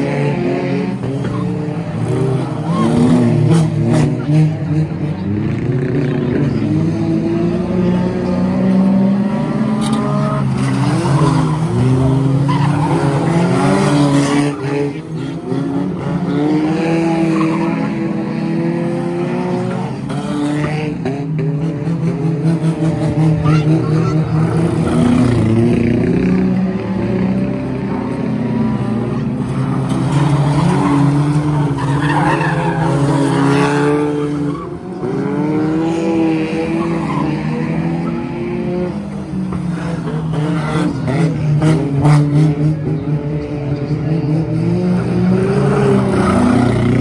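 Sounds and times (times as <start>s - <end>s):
racing car engines revving: 0.0s - 47.0s.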